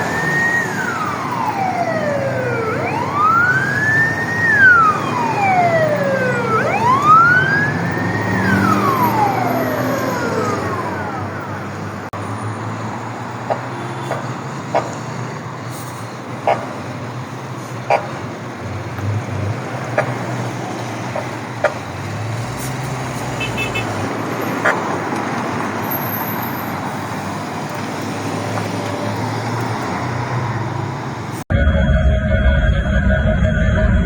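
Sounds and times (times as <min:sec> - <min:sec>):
road traffic: 0:00.0 - 0:31.6.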